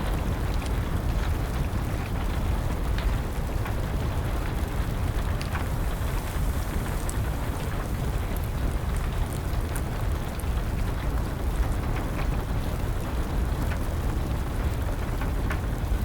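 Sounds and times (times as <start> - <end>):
steady rain: 0.0 - 16.0
wood fire crackling: 0.1 - 16.0.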